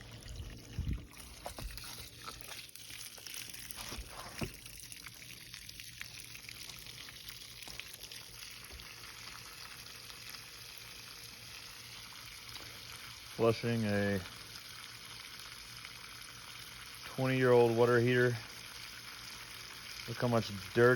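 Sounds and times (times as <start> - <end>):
water pouring from drain: 0.0 - 20.9.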